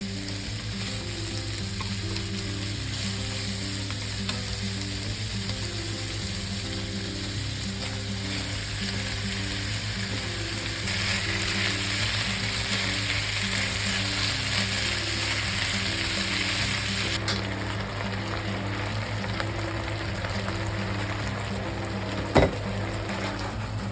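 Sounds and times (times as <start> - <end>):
food sizzling in a pan: 0.0 - 23.9.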